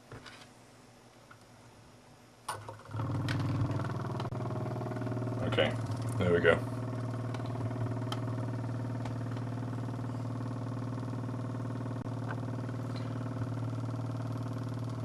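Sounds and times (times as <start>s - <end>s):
engine low hum with overtones: 2.9s - 15.0s.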